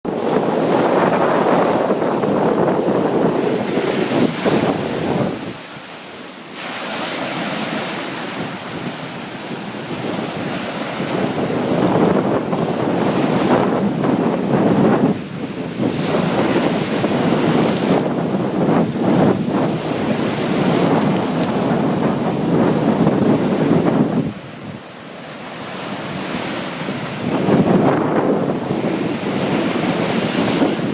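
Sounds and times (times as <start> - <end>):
wind buffeting microphone: 0.1 - 6.0, 6.9 - 30.9
sea waves washing in: 0.1 - 30.9.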